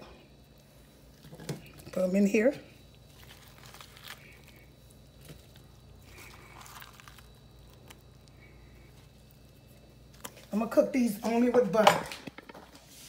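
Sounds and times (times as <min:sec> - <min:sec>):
wet onions squishing: 0:00.3 - 0:11.2.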